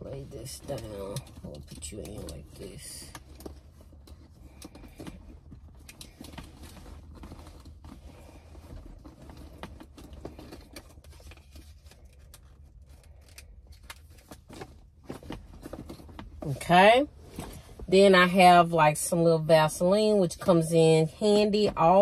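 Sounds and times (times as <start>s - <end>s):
items clicking and rustling in a handbag: 0.0s - 18.4s
low steady hum: 0.0s - 22.0s.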